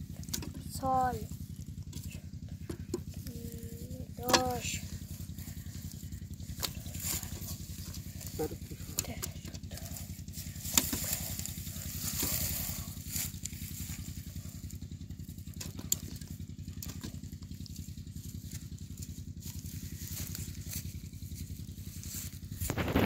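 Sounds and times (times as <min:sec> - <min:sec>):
dry straw rustling: 0:00.0 - 0:23.0
small engine chugging: 0:00.0 - 0:23.0.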